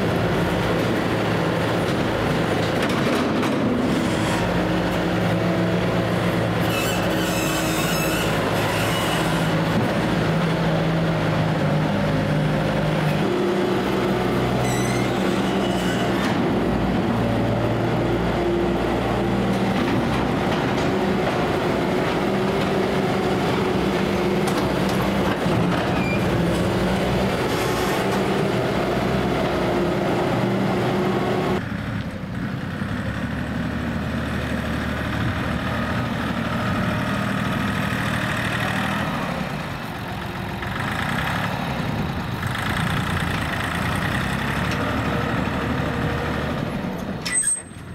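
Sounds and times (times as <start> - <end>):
tractor engine running: 0.0 - 8.7, 15.2 - 47.9
diesel loader engine running: 0.0 - 47.9.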